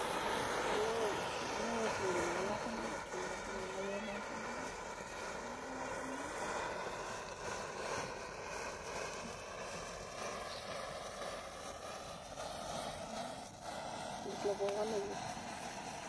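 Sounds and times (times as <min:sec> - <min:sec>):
matchsticks burning and crackling: 0:00.0 - 0:16.0.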